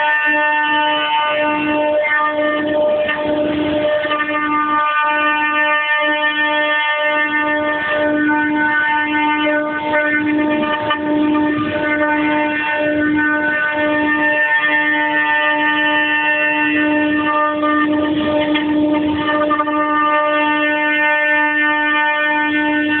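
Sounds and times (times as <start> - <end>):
machine motors whining: 0.0 - 23.0.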